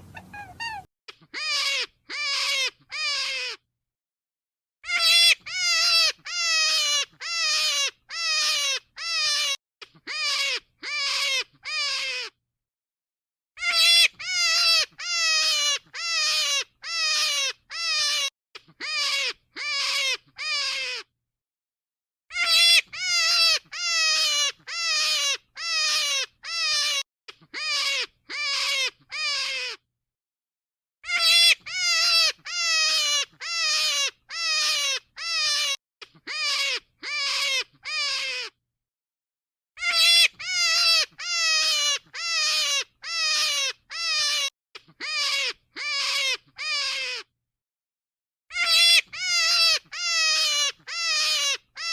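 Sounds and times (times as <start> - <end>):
rabbit calls: 0.0 - 3.6, 4.8 - 12.3, 13.6 - 21.1, 22.3 - 29.8, 31.0 - 38.5, 39.8 - 47.3, 48.5 - 51.9.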